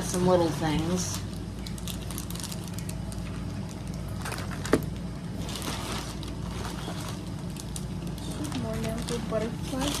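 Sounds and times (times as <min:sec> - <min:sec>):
steady low hum: 0:00.0 - 0:10.0
plastic packaging crinkling: 0:00.7 - 0:10.0.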